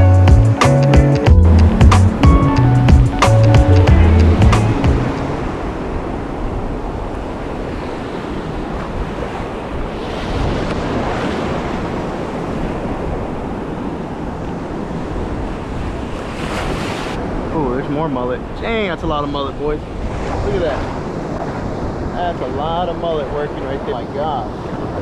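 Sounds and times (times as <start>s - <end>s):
wind noise on microphone: 0.0s - 25.0s
ocean surf breaking: 0.6s - 25.0s.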